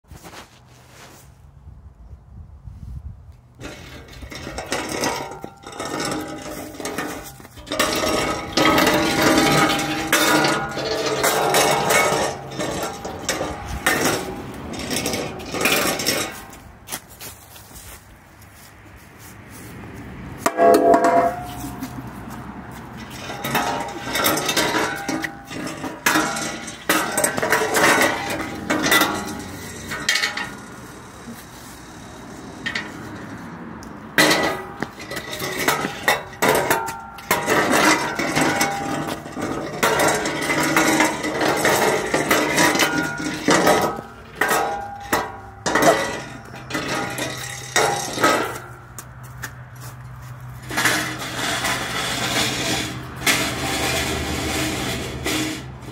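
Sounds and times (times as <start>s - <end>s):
chair scraping on patio: 0.0s - 1.5s, 3.6s - 19.8s, 20.4s - 55.9s.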